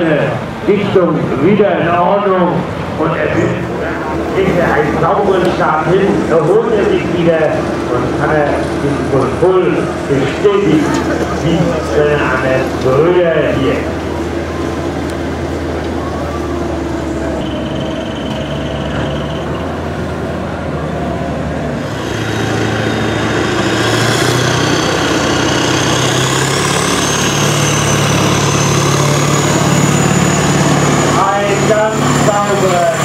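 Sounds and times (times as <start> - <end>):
high engine whine: 0.0 - 33.0
tractor diesel engine: 0.0 - 33.0.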